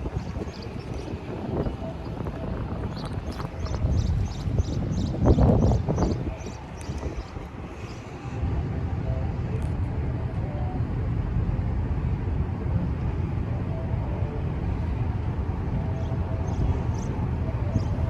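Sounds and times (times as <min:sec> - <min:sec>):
diesel engines rumbling: 0:00.0 - 0:18.0
faint machinery hum: 0:00.0 - 0:18.0.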